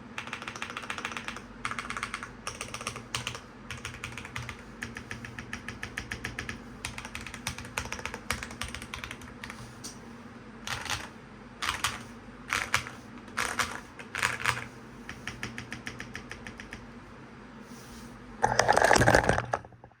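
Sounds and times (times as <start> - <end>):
fan hum: 0.0 - 20.0.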